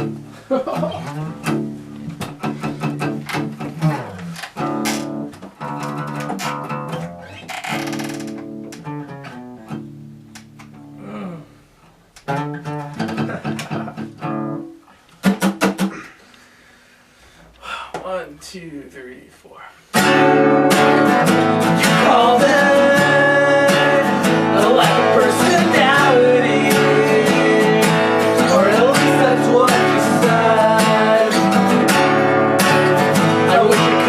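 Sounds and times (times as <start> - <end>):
guitar plucked and strummed: 0.0 - 15.9, 19.9 - 34.0
bass guitar: 0.0 - 16.2, 20.0 - 34.0.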